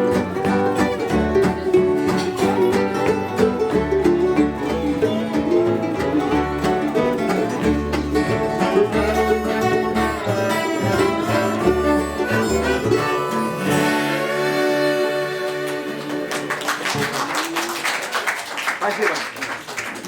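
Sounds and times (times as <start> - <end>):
plucked strings: 0.0 - 17.0.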